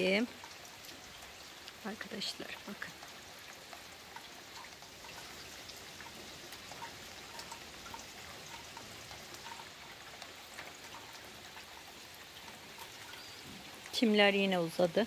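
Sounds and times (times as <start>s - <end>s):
raindrops ticking close by: 0.0s - 15.0s
steady rain hiss: 0.0s - 15.0s.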